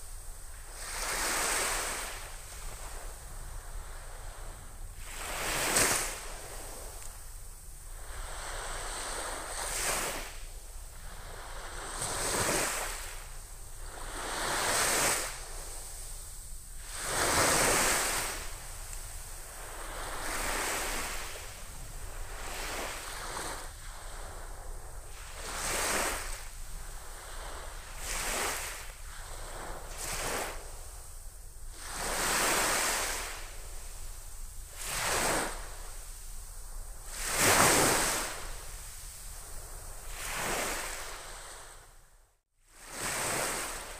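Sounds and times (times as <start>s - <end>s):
small waves breaking on beach: 0.0s - 31.1s, 31.7s - 41.9s, 42.8s - 43.9s.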